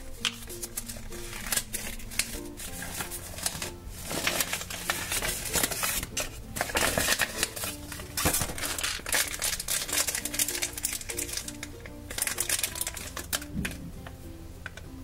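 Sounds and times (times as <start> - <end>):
plastic bag rustling: 0.0 - 13.9
plastic wrapping crinkling and tearing: 0.0 - 14.8.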